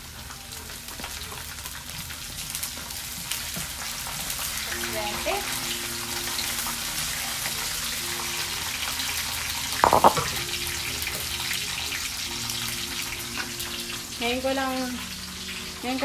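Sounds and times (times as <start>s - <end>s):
garlic sizzling in hot oil: 0.0s - 16.0s.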